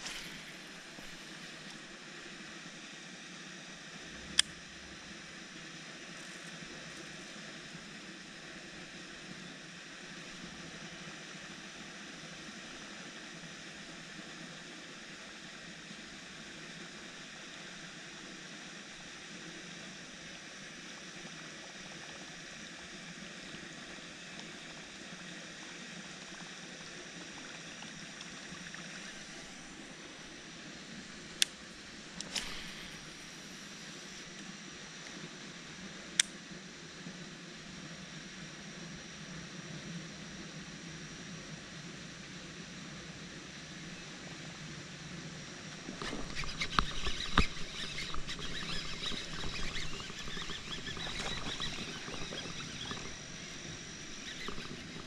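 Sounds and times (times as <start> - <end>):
faint outdoor hiss: 0.0 - 55.0.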